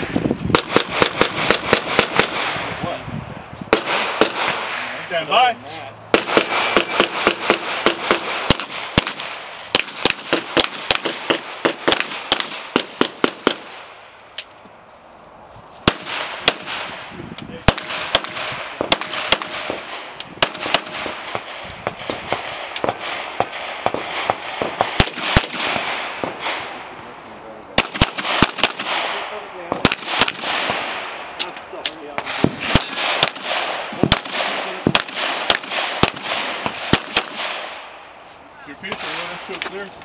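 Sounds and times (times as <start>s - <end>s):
pistol shots: 0.5s - 2.8s, 3.7s - 4.9s, 6.1s - 13.9s, 15.8s - 26.9s, 27.7s - 38.0s.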